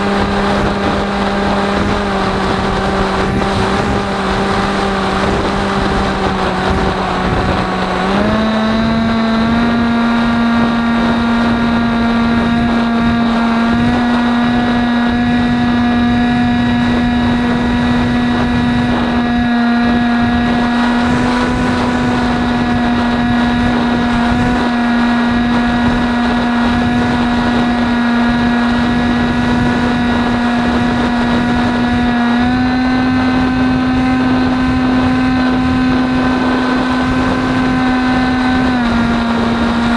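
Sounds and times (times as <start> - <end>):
electric motor and propeller hum: 0.0 - 39.9
wind noise on microphone: 0.0 - 39.9.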